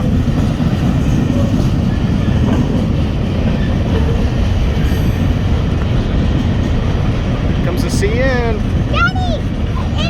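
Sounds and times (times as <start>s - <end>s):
freight train rolling past: 0.0s - 10.0s.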